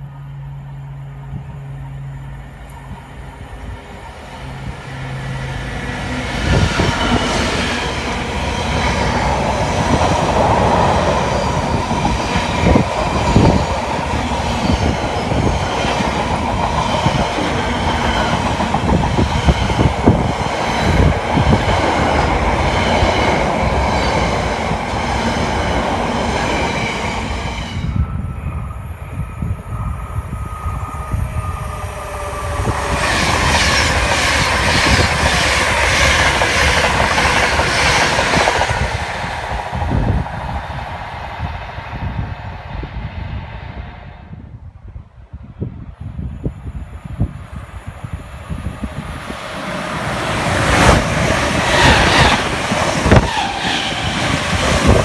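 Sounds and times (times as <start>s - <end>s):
diesel locomotive engine: 0.0s - 55.0s
electric train approaching: 0.0s - 55.0s.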